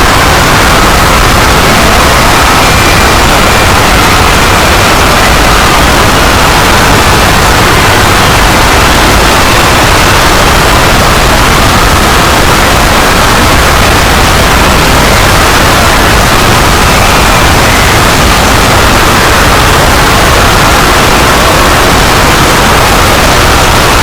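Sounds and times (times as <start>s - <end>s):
loud steady static noise: 0.0s - 24.0s.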